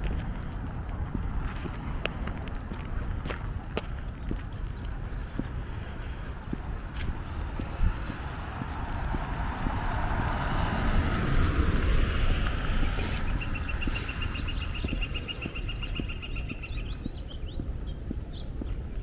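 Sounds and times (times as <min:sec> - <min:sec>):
car passing: 0:00.0 - 0:19.0
walking footsteps: 0:00.0 - 0:19.0.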